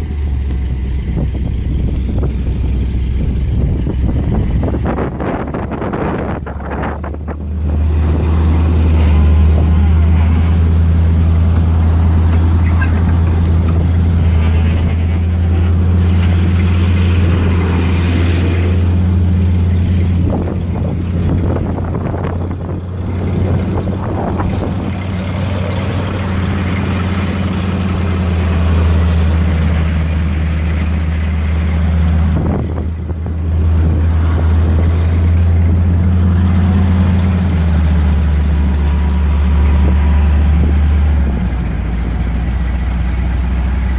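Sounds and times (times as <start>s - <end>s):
truck engine running steadily: 0.0s - 43.9s.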